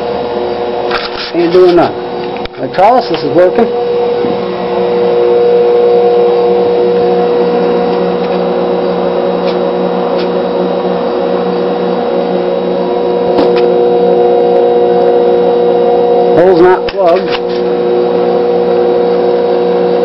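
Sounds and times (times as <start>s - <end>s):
battery charger humming and buzzing: 0.0s - 20.0s.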